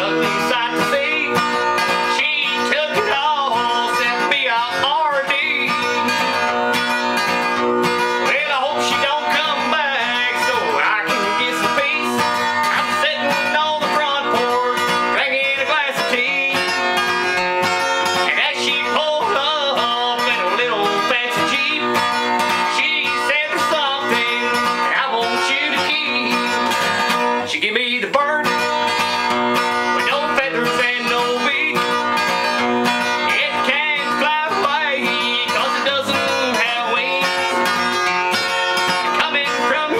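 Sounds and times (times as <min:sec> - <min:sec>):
country song with acoustic guitar: 0:00.0 - 0:39.9.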